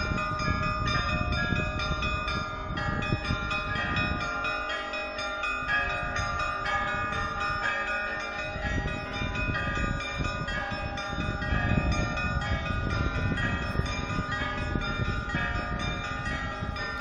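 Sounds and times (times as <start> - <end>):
church bells ringing a peal: 0.0 - 17.0.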